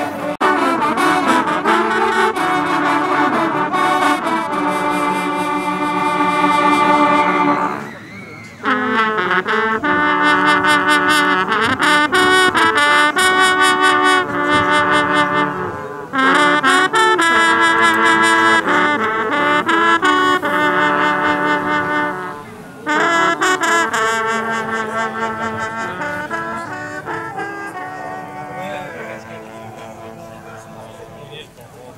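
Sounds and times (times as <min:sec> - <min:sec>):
hunting horns playing a fanfare: 0:00.0 - 0:31.7.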